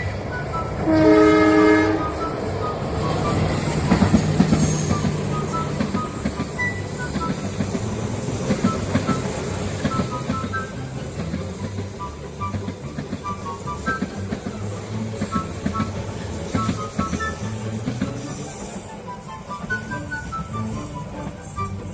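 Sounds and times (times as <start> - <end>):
train horn blast: 0.0 - 21.9
train rumbling past: 0.0 - 21.9
wheels clattering over rail joints: 0.0 - 21.9.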